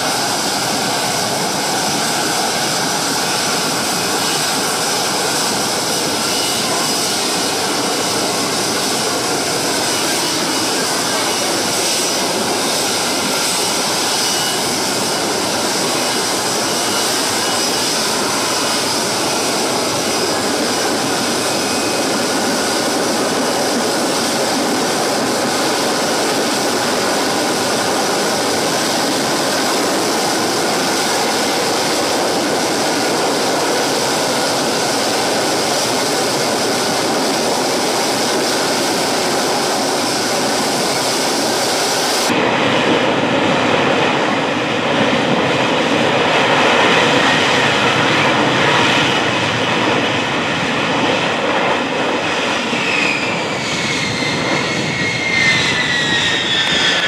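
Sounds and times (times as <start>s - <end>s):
jet engine roaring at hover: 0.0s - 57.0s.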